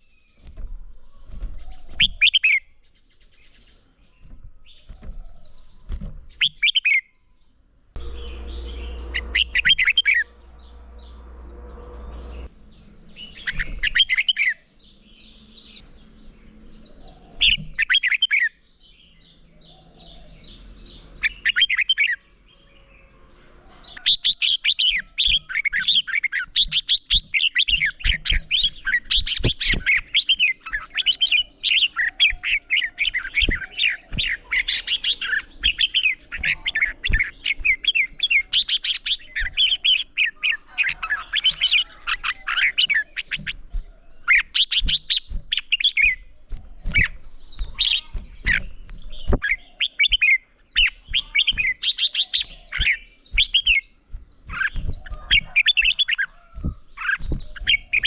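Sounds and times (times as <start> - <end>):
bulbuls singing: 0.0 - 58.0.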